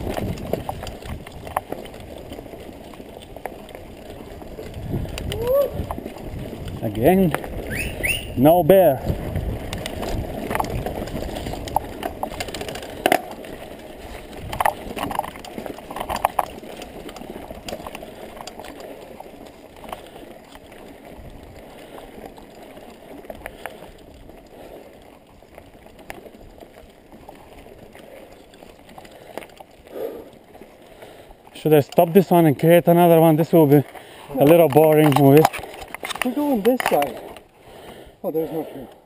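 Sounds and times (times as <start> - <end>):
bike knocking and rattling: 0.0 - 38.0
bike tyres rumbling on dirt: 0.0 - 39.0.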